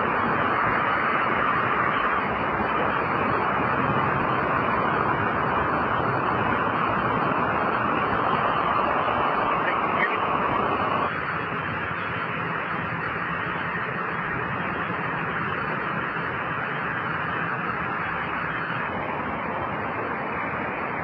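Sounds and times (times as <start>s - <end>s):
traffic on wet road: 0.0s - 21.0s
wind: 0.0s - 21.0s.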